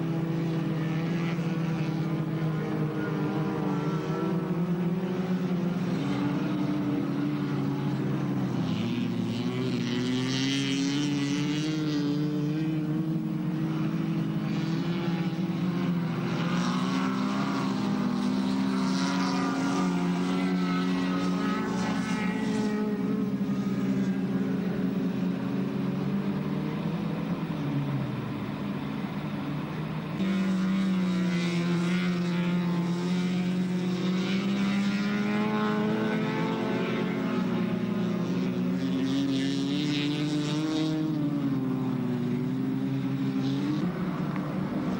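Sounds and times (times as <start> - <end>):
race car engines at high revs: 0.0 - 44.9.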